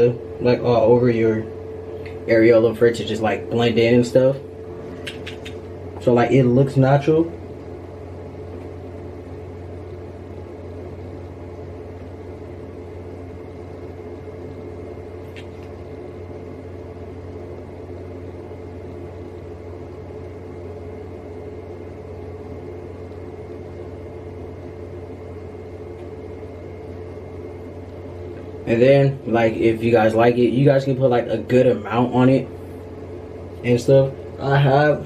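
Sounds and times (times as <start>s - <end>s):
faint high whine: 0.0s - 35.0s
ventilation fan hum: 0.0s - 35.0s.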